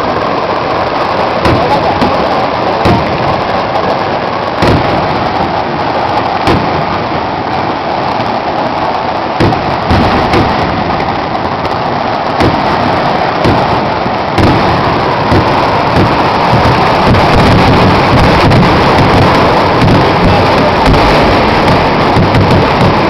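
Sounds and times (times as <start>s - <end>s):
fireworks barrage exploding: 0.0s - 23.0s.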